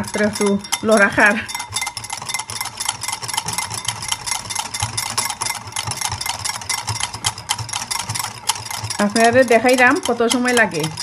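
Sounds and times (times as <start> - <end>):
wire whisk beating in glass bowl: 0.0 - 11.0.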